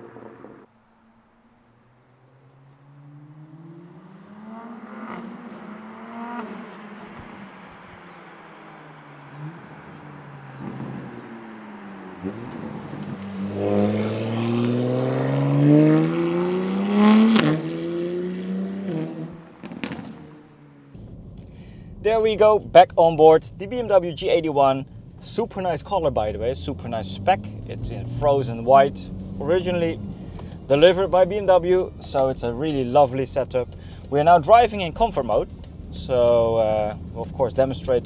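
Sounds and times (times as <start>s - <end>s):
car engine revving: 0.0s - 38.0s
exhaust crack: 0.0s - 38.0s.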